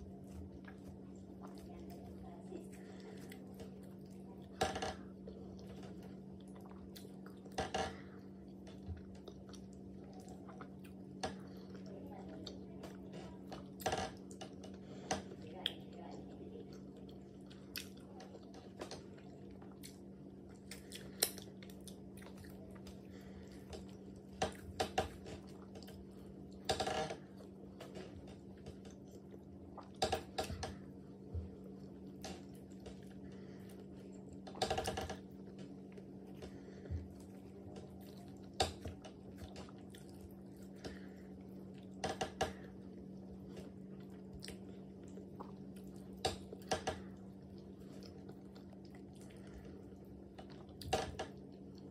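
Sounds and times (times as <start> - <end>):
person chewing with wet smacks: 0.0 - 51.9
steady low hum: 0.0 - 51.9.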